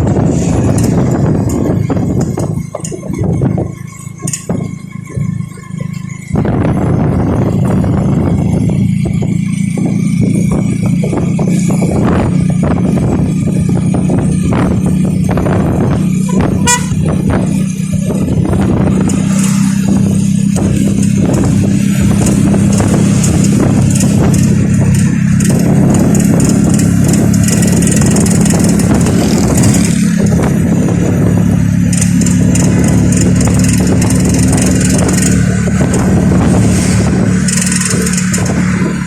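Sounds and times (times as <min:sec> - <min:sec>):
engine drone: 0:00.0 - 0:39.0.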